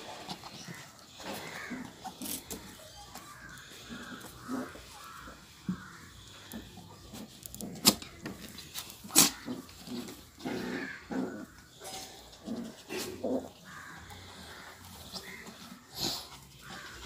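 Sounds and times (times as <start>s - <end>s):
puppies making low vocal sounds: 0.0s - 17.0s.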